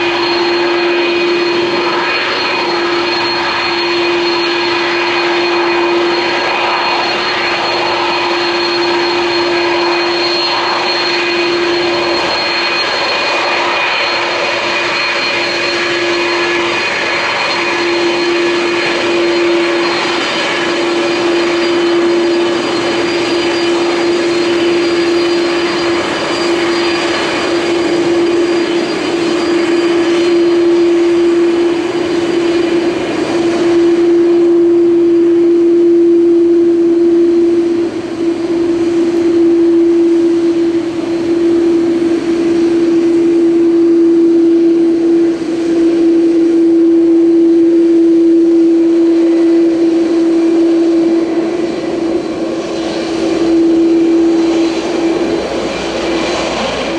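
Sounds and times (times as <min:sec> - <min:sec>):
jet engines running: 0:00.0 - 0:56.9.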